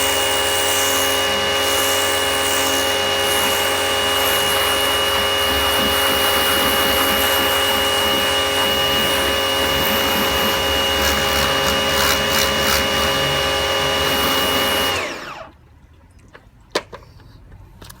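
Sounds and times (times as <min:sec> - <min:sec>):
pressure washer motor whine: 0:00.0 - 0:15.6.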